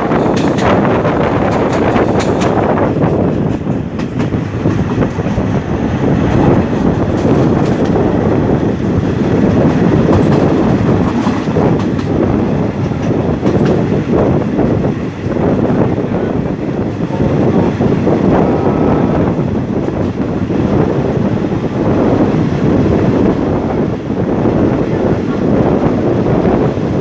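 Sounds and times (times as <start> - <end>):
rail joint clicks: 0.0 - 26.9
train wheels rumbling on track: 0.0 - 27.0.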